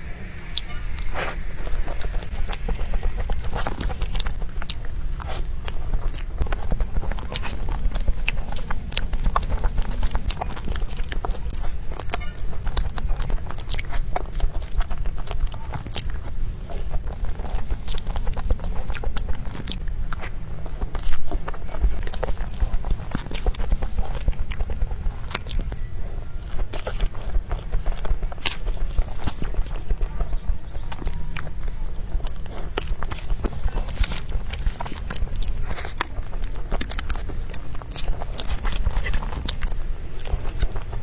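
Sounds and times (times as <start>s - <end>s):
wet biting and chewing: 0.0s - 41.0s.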